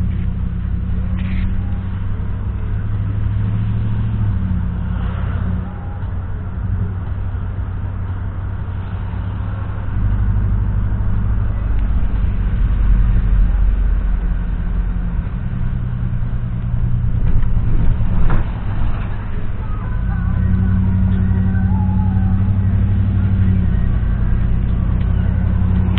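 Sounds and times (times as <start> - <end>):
car engine and road noise: 0.0 - 25.9.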